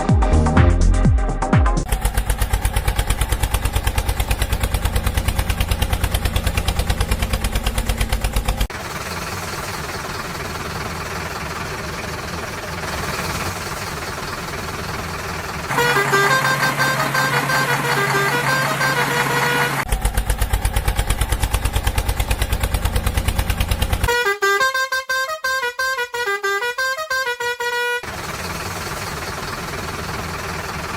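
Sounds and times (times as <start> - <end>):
diesel engine chugging: 1.8 - 24.6, 27.7 - 30.9.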